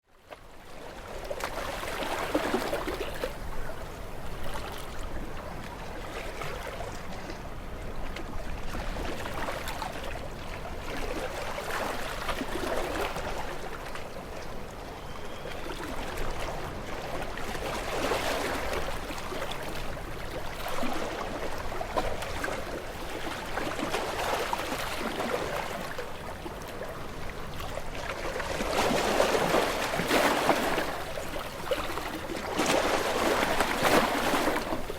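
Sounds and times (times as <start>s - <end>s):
ocean waves breaking on rocks: 0.9s - 34.9s.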